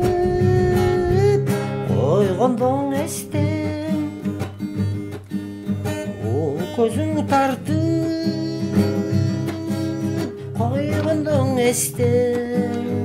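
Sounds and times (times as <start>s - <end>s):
person singing: 0.0s - 4.4s, 6.0s - 13.0s
strummed acoustic guitar: 0.0s - 13.0s.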